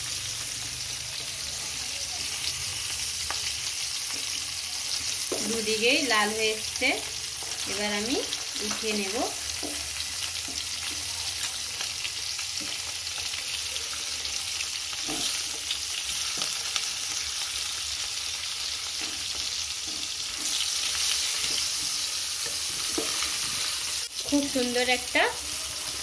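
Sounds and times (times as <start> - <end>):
prawns sizzling in oil: 0.0 - 26.0.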